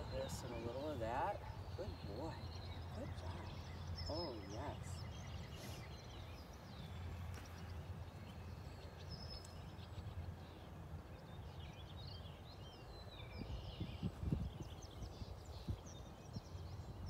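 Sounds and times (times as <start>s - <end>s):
low outdoor rumble: 0.0s - 16.9s
small birds chirping: 0.0s - 17.0s.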